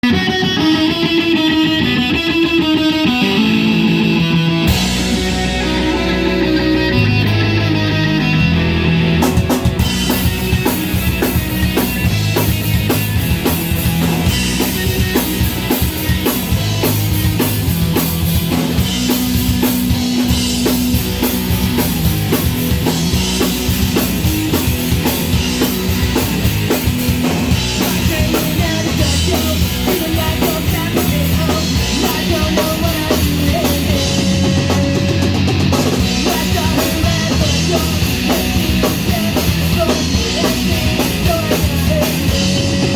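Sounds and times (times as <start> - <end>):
drum kit beat: 0.0 - 42.9
rock band playing: 0.0 - 42.9.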